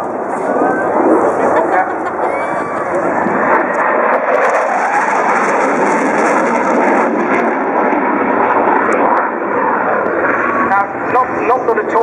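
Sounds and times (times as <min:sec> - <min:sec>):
jet engines roaring overhead: 0:00.0 - 0:12.0.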